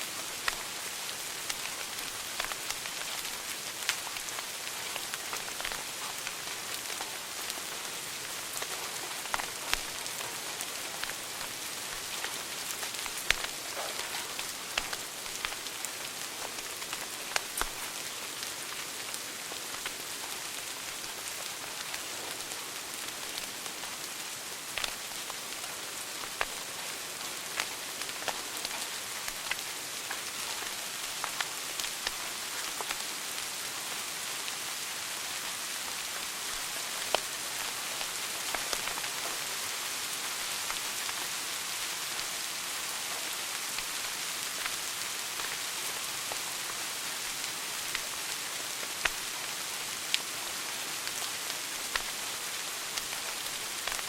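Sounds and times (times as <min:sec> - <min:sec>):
wood fire crackling and popping: 0:00.3 - 0:33.1, 0:36.4 - 0:41.2, 0:43.2 - 0:45.6, 0:47.2 - 0:49.3, 0:51.1 - 0:54.0.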